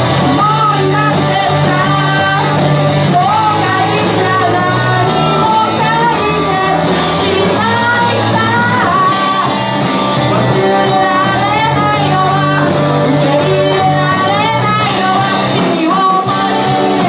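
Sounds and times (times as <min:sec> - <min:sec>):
person singing: 0:00.0 - 0:17.0
rock band playing loudly: 0:00.0 - 0:17.0.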